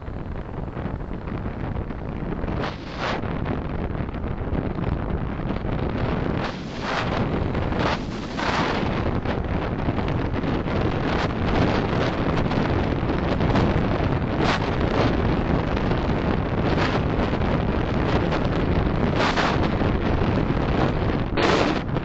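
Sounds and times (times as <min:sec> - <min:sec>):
car road and wind noise: 0:00.0 - 0:22.0.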